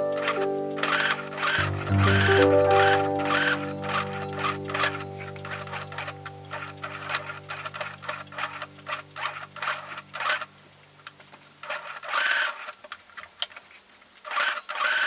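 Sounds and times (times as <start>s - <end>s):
sewing machine stitching: 0.2s - 10.5s, 11.6s - 12.8s, 14.2s - 15.0s.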